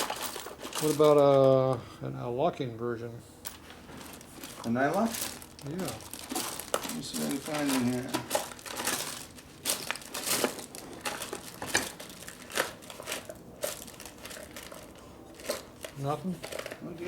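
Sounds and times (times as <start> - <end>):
rummaging through loose hardware: 0.0 - 1.7, 3.4 - 17.0.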